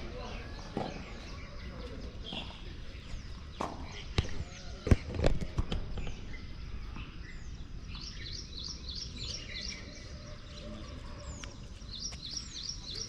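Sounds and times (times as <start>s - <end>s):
small bird chirping: 0.2s - 13.0s.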